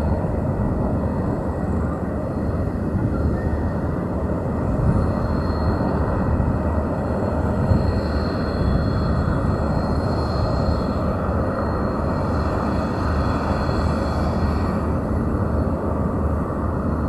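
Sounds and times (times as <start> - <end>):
turboprop engines rumbling: 0.0 - 17.0.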